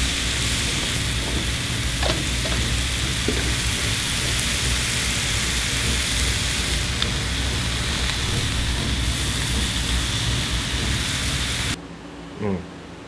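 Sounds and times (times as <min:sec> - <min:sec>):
steak sizzling on hot platter: 0:00.0 - 0:11.8.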